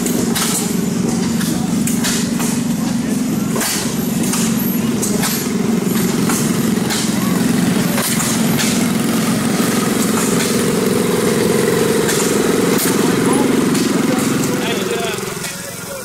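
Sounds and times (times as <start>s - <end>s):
exhaust pops: 0.0s - 15.8s
old engines chugging: 0.0s - 16.0s.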